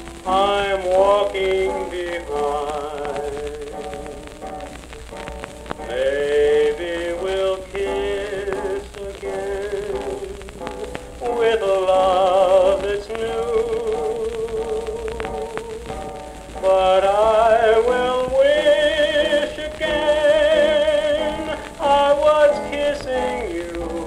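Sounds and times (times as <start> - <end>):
melody from a record: 0.0 - 24.0
record surface crackle and clicks: 0.0 - 24.0.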